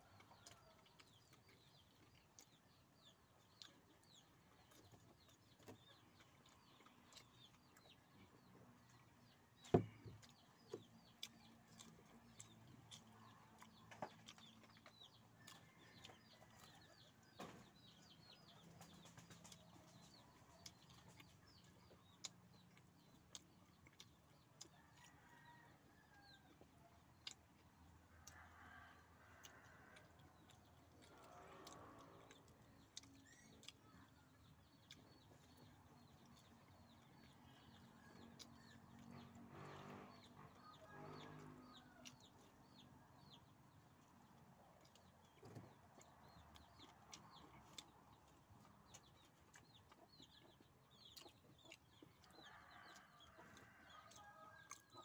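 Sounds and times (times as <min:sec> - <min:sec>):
mouth clicks from chewing: 0:00.0 - 0:43.4, 0:44.0 - 0:55.0.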